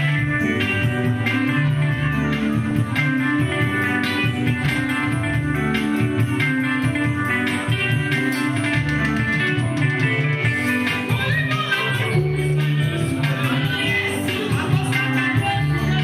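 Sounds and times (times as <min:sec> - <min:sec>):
bass line: 0:00.0 - 0:16.0
electric guitar: 0:00.0 - 0:16.0.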